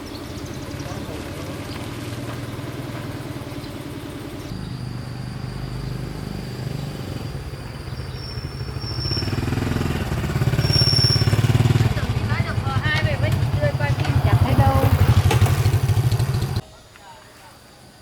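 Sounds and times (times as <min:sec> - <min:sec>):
small vehicle engine running: 0:00.0 - 0:16.6.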